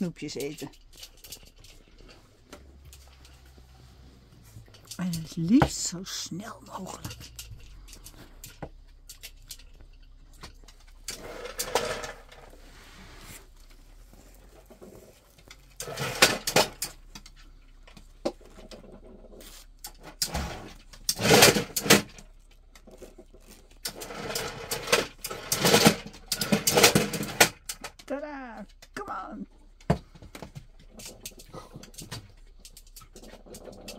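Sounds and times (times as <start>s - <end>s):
plastic toy and treats rattling: 0.0s - 33.9s.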